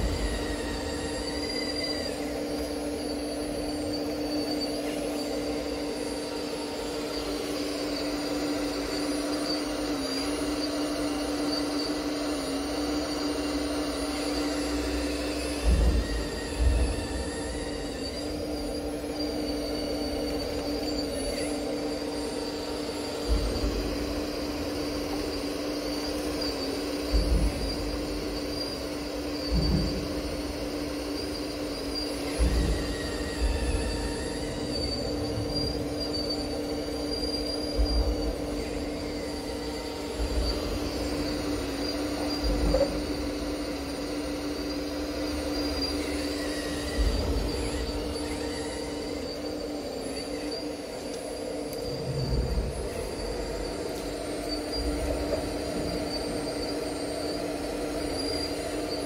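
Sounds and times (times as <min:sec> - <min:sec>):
model excavator motor whining: 0:00.0 - 0:59.0.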